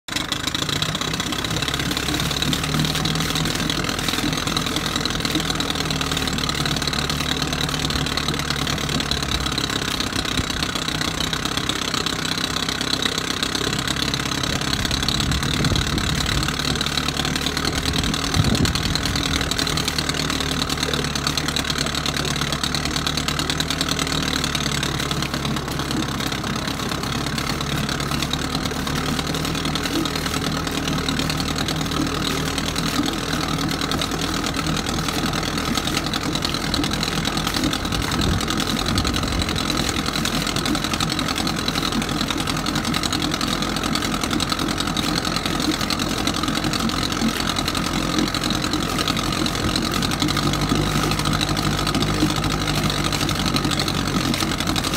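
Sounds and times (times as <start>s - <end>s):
outboard motor running: 0.0s - 54.9s
water churning: 0.1s - 54.9s.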